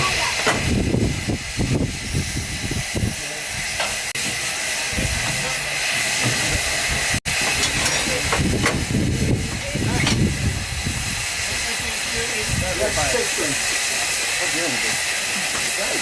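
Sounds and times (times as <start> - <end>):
steam locomotive hissing: 0.0 - 16.0.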